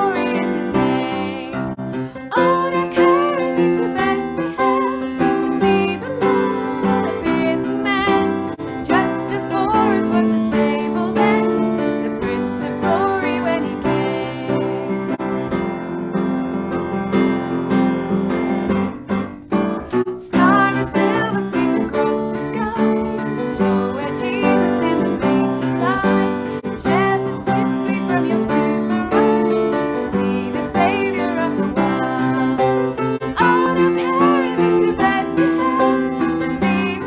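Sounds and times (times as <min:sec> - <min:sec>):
woman singing a carol: 0:00.0 - 0:15.2, 0:20.2 - 0:37.0
upright piano accompaniment: 0:00.0 - 0:37.0.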